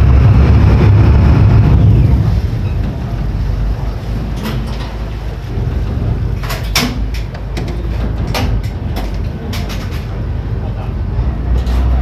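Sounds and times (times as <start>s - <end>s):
ferry engine rumble: 0.0s - 12.0s.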